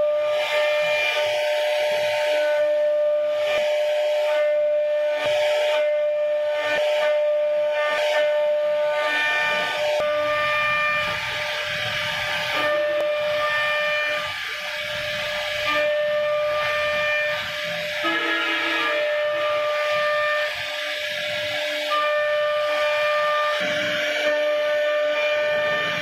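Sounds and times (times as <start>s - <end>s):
router spindle whine: 0.0s - 26.0s.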